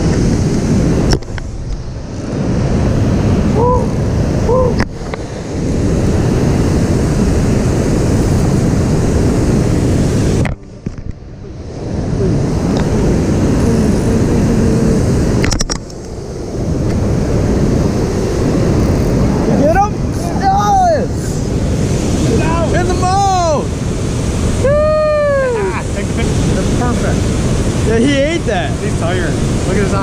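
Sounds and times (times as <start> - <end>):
river rushing and splashing: 0.0 - 30.0
wind buffeting microphone: 0.0 - 30.0.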